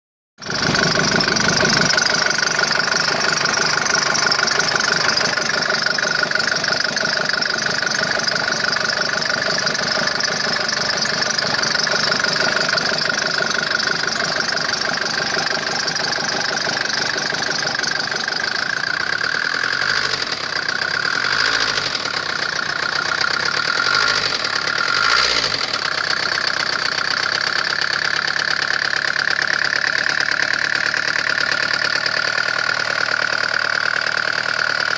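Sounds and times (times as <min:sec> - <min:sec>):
diesel engine knocking: 0:00.4 - 0:34.9.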